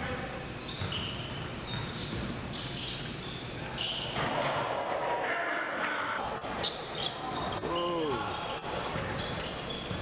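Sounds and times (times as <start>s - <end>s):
sneaker squeaks: 0.0s - 4.4s, 6.2s - 10.0s
crowd talking in echoing gym: 0.0s - 10.0s.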